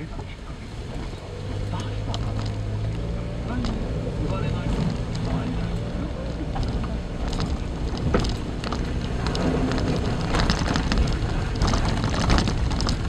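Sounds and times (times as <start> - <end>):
car engine and tyres rumbling: 0.0 - 13.0
car rattling over bumps: 0.0 - 13.0.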